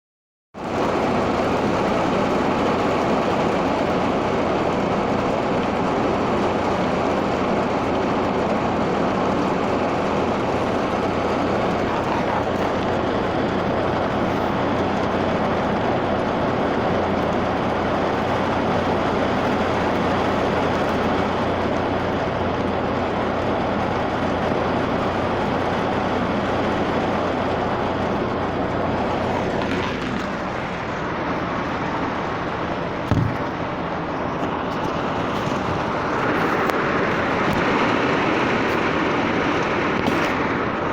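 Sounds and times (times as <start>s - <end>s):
steady rain falling: 0.6s - 40.9s.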